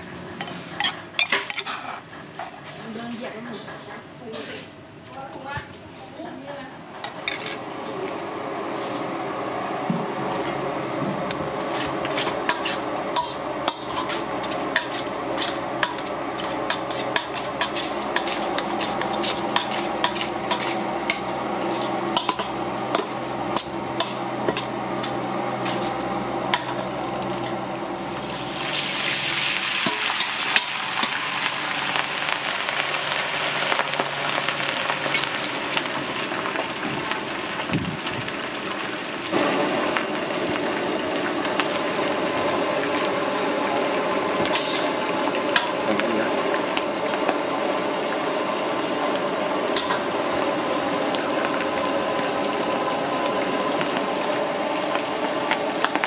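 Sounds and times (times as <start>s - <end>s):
deep-frying sizzle: 7.0s - 56.0s.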